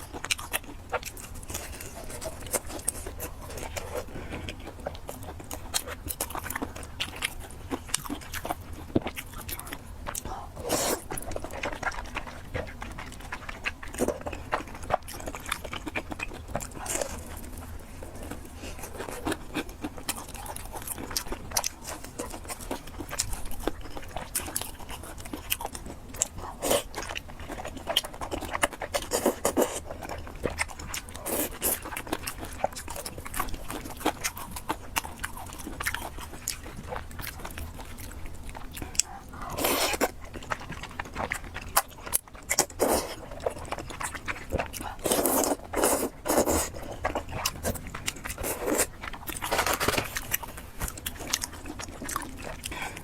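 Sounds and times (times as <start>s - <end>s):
chewing food: 0.0s - 53.0s.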